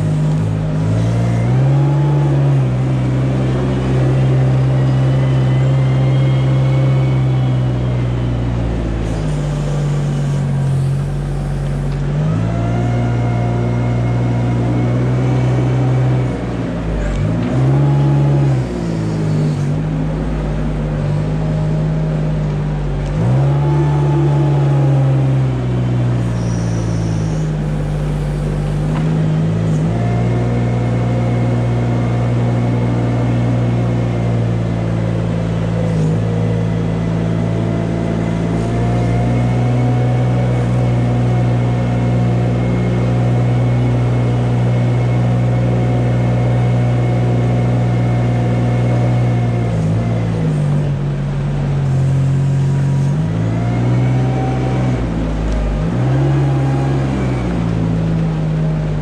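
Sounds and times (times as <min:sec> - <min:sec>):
small vehicle engine running: 0:00.0 - 0:59.0.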